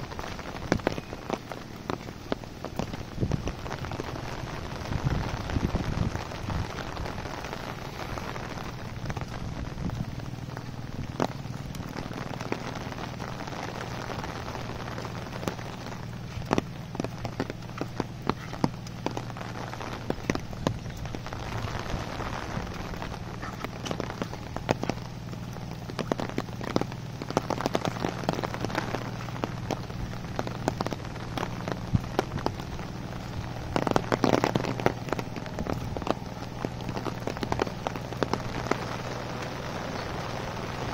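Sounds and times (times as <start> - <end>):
low rumble: 0.0 - 40.9
rain falling: 0.0 - 40.9
raindrop taps: 0.0 - 40.9.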